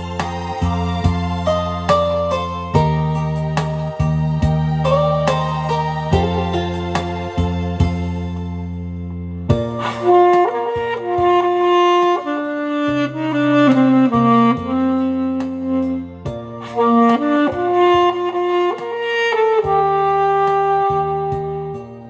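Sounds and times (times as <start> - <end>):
alto saxophone melody: 0.0 - 8.8, 9.4 - 22.0
bass: 0.0 - 22.0
keyboard accompaniment: 0.0 - 22.0.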